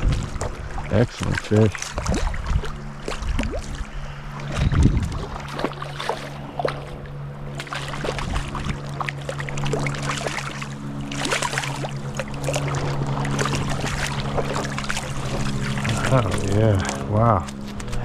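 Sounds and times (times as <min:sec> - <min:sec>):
water running and sloshing: 0:00.0 - 0:18.0.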